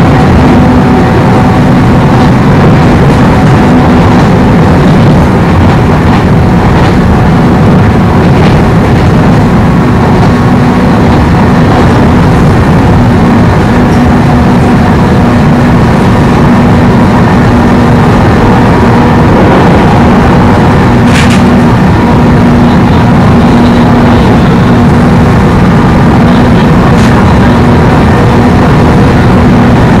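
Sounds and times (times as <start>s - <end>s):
low hum: 0.0s - 30.0s
train wheels rumbling: 0.0s - 30.0s.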